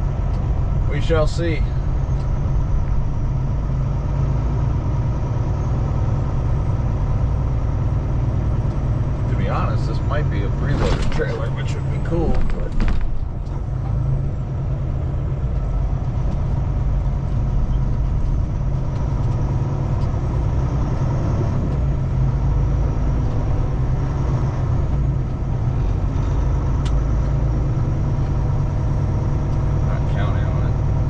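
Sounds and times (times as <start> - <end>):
truck diesel engine running: 0.0 - 31.0.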